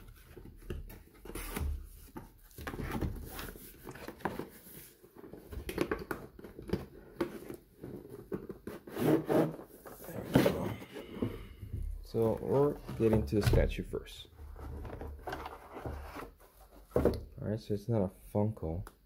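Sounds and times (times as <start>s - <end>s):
cardboard rustling and scraping: 0.0s - 13.8s, 14.4s - 17.2s.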